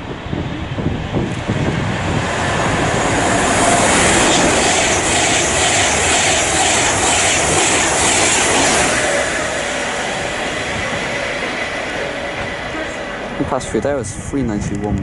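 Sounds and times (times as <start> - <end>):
train rushing past: 0.0 - 14.9.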